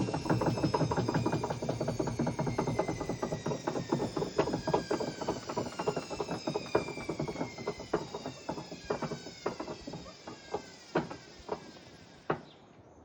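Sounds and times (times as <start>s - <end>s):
drum knocking and rattling: 0.0s - 12.5s
washing machine motor whine: 0.0s - 13.0s.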